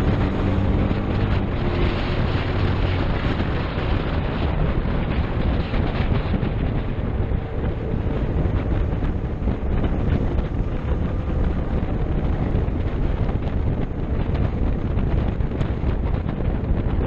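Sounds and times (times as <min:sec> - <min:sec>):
motorcycle running: 0:00.0 - 0:17.0
wind buffeting microphone: 0:00.0 - 0:17.0.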